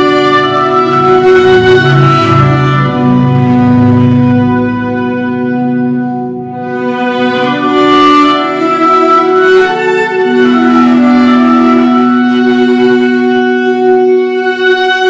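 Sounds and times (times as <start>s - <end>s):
clarinet: 0.0s - 15.0s
violin: 0.0s - 15.0s.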